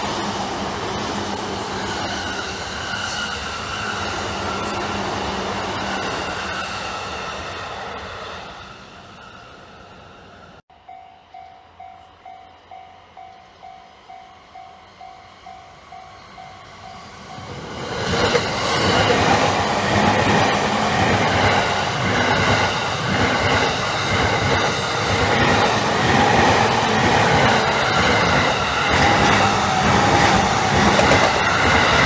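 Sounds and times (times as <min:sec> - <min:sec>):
electric train passing loudly: 0:00.0 - 0:32.0.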